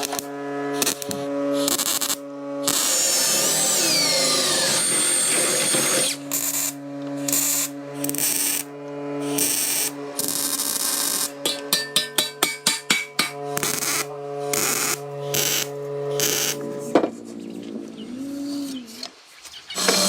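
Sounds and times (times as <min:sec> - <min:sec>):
power tool whining: 0:00.0 - 0:19.2, 0:19.8 - 0:20.0.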